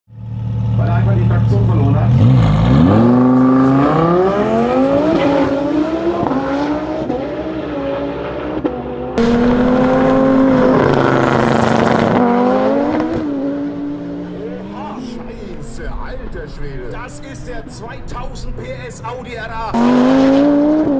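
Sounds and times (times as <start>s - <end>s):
car engine accelerating: 0.1s - 20.9s.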